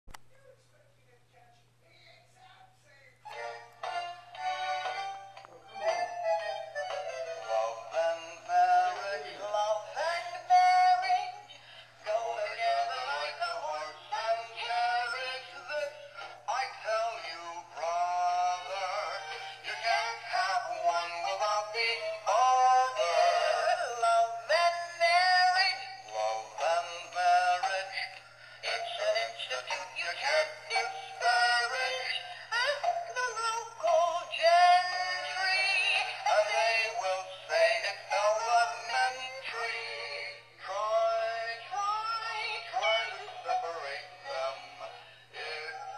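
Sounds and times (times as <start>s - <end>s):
toy singing song with music: 3.2s - 45.9s.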